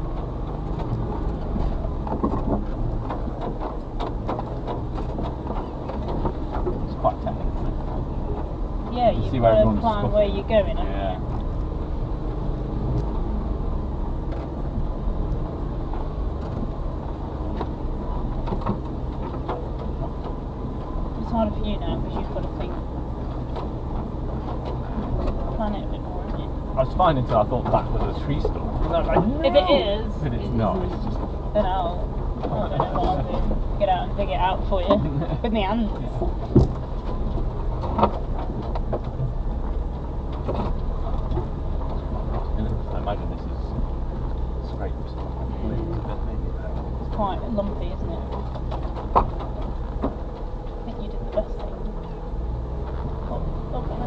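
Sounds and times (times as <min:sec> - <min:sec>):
body and suspension rattles: 0:00.0 - 0:54.0
truck engine running at low revs: 0:00.0 - 0:54.0.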